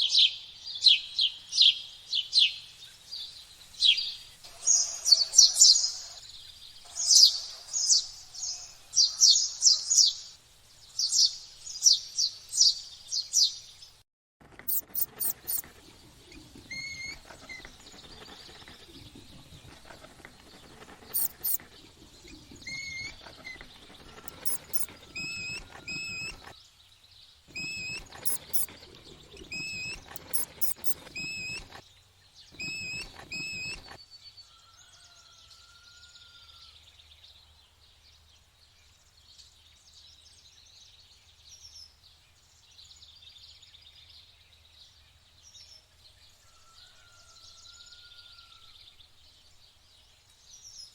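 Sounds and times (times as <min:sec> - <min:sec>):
bird chirping: 0:00.0 - 0:50.9.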